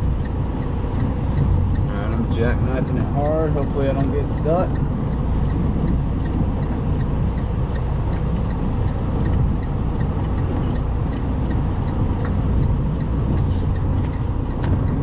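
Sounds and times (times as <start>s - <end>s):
diesel truck engine running: 0.0s - 15.0s
faint regular ticking: 0.0s - 15.0s.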